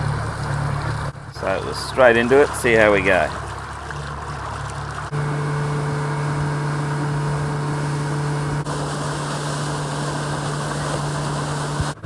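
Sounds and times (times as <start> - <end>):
outboard motor running: 0.0 - 12.0
water and wind rushing along hull: 0.0 - 12.0.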